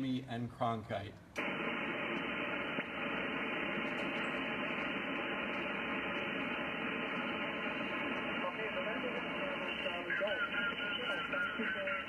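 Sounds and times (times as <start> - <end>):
radio receiver hiss: 1.4 - 12.0.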